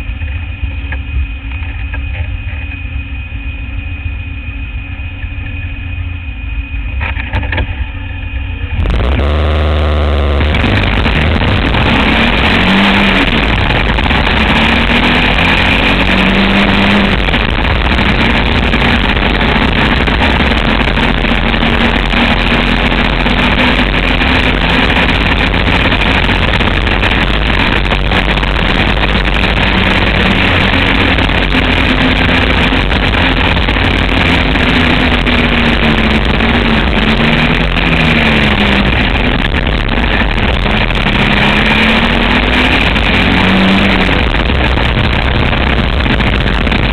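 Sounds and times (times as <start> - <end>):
motorcycle trike engine racing: 0.0 - 46.9
loud rushing noise: 8.4 - 46.9.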